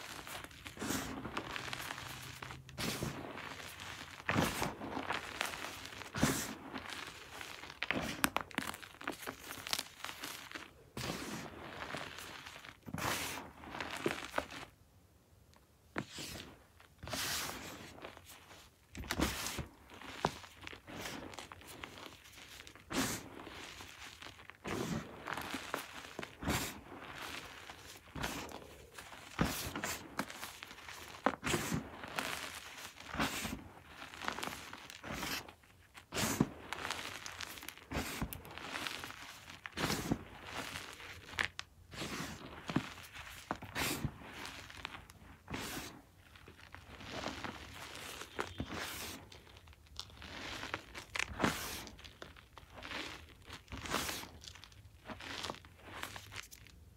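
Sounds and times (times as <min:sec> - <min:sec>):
chalk crunching between hands: 0:00.0 - 0:14.8, 0:15.9 - 0:56.8.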